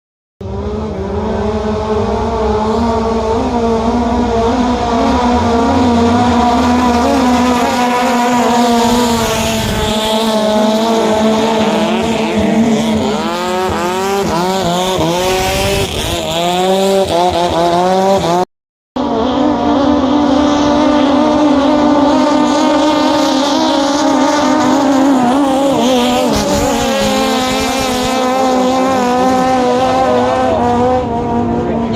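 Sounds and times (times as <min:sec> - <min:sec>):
boat engine revving: 0:00.4 - 0:18.4, 0:19.0 - 0:31.9.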